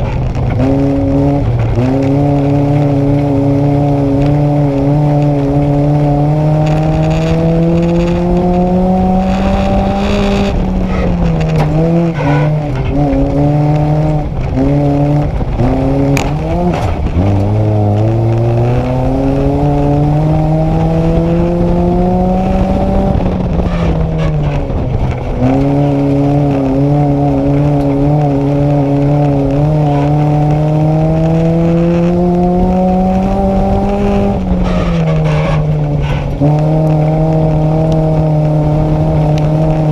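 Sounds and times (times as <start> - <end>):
race car engine from inside cabin: 0.0 - 39.9.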